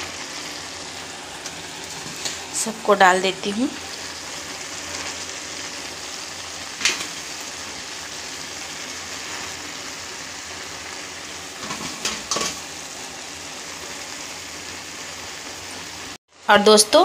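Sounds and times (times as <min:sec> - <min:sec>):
pan hissing on stove: 0:00.0 - 0:16.6.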